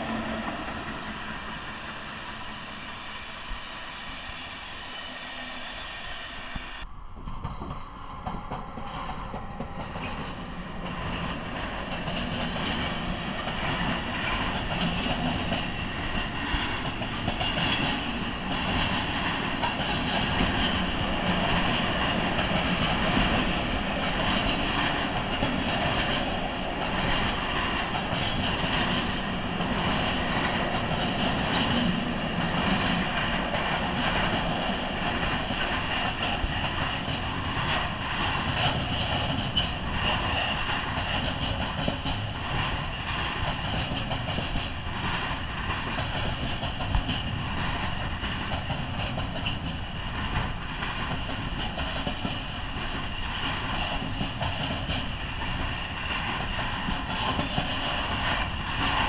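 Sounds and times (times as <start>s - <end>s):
train wheels clattering over rails: 7.4s - 59.0s.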